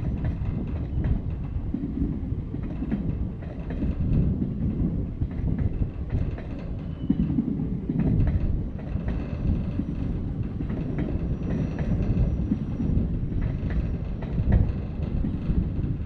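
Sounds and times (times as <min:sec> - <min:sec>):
train rumbling past: 0:00.0 - 0:16.0
wheels clicking over rail joints: 0:00.0 - 0:16.0.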